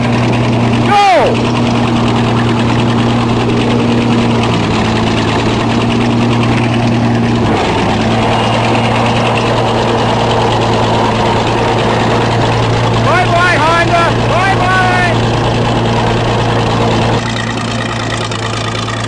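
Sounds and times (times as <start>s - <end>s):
bulldozer engine running: 0.0s - 19.0s.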